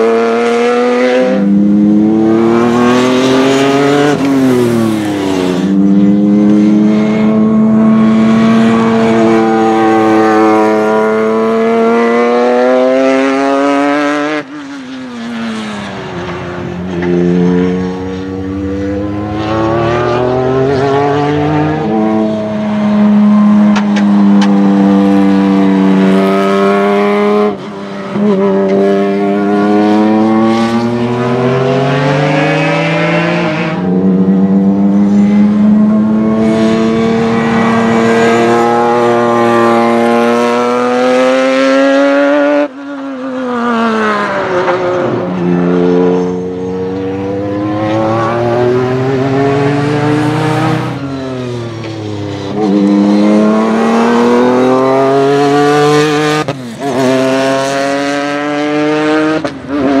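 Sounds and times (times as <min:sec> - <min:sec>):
racing car engine at full throttle: 0:00.0 - 1:00.0
racing car passing by: 0:00.0 - 1:00.0.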